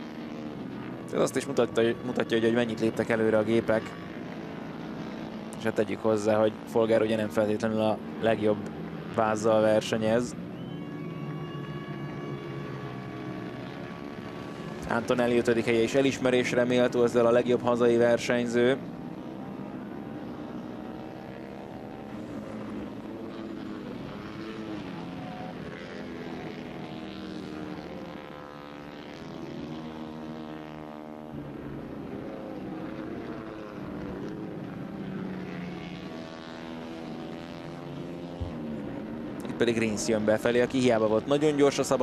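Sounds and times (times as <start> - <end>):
motorcycle passing close: 0.0 - 42.0
racing motorcycle engines revving: 0.0 - 42.0.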